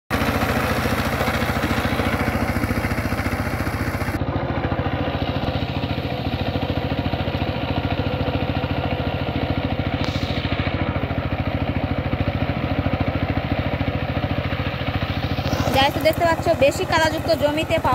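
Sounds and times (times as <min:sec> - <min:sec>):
diesel tiller engine chugging: 0:00.1 - 0:17.9.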